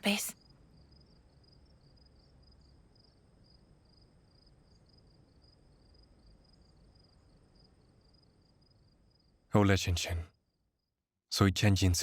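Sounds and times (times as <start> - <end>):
insect chirping: 0.0 - 11.1.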